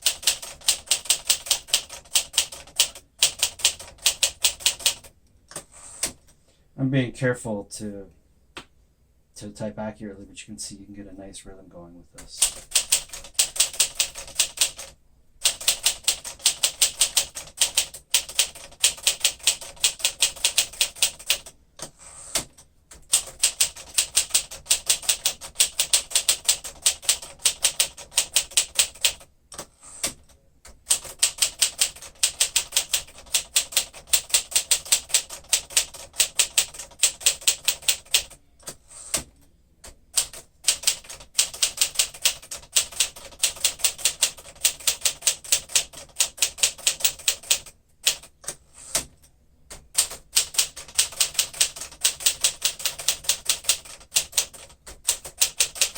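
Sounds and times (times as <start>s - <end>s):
manual typewriter typing: 0.0s - 5.1s, 12.3s - 55.9s.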